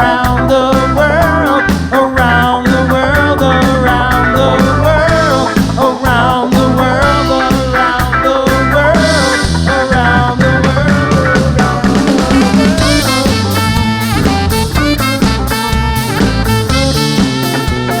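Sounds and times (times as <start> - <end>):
bass guitar: 0.0 - 18.0
bending melodic lead line: 0.0 - 18.0
drum kit: 0.0 - 18.0
electric guitar: 0.0 - 18.0.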